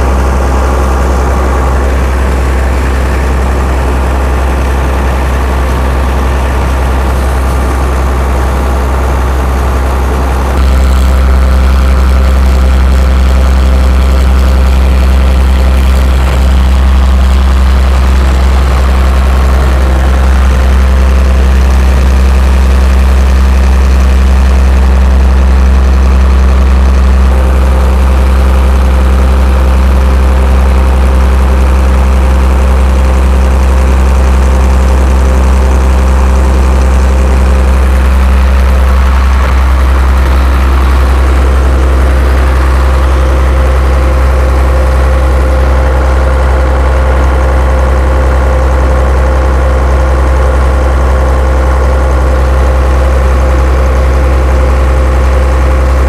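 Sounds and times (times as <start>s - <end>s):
water pump engine droning: 0.0s - 56.0s.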